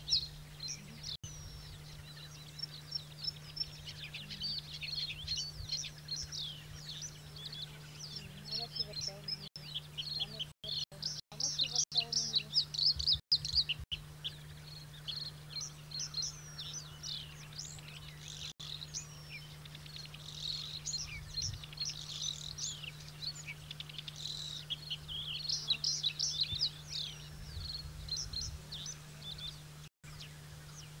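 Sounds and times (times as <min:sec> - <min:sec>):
bird singing chirps and trills: 0:00.0 - 0:31.0.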